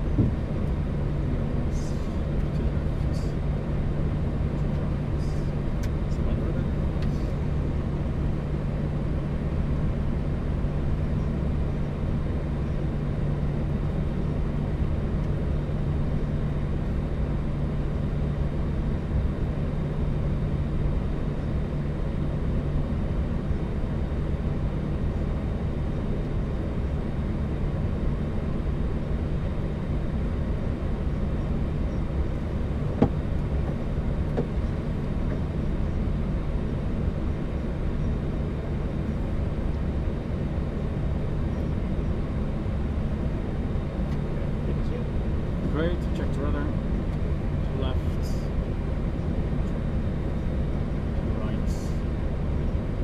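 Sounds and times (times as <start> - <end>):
jet engines idling: 0.0 - 53.0
low hum: 0.0 - 53.0.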